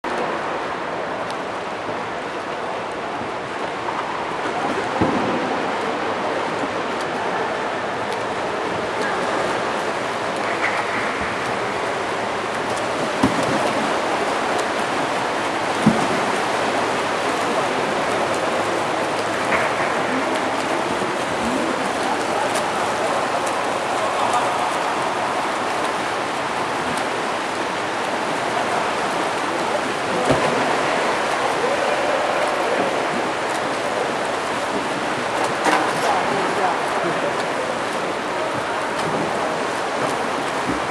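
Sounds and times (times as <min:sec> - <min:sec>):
pool water splashing: 0:00.0 - 0:40.9.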